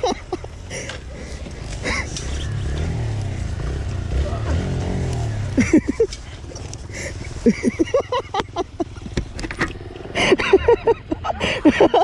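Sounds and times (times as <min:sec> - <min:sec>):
motorcycle engine running: 0:00.4 - 0:11.4.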